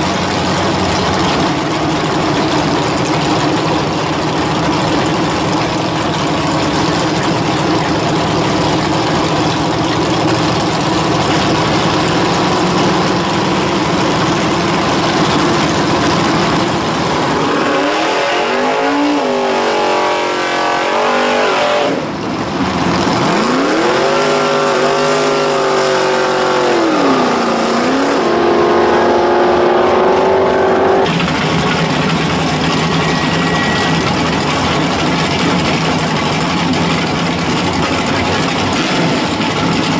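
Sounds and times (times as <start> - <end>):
rough car engines running: 0.0 - 39.9
engine revving: 6.6 - 39.9.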